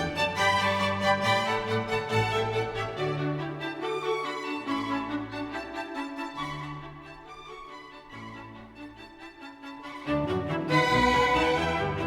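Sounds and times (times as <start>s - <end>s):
music with sustained string notes: 0.0s - 12.0s.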